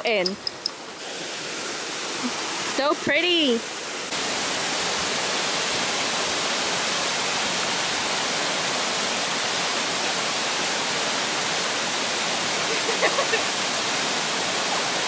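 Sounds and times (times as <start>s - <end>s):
waterfall rushing: 0.1s - 15.0s.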